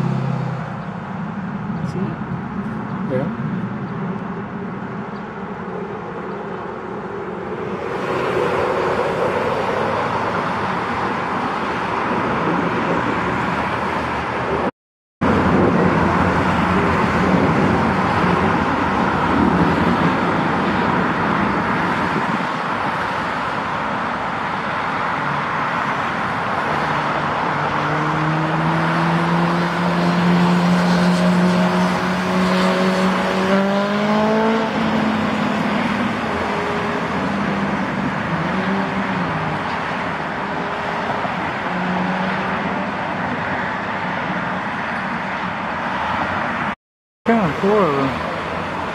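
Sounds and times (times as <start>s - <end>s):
loud engine roar: 0.0s - 0.8s, 5.4s - 46.6s.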